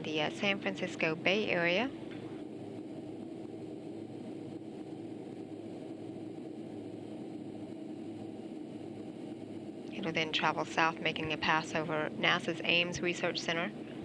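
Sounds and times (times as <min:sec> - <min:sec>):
jet cockpit engine drone: 0:00.0 - 0:14.0.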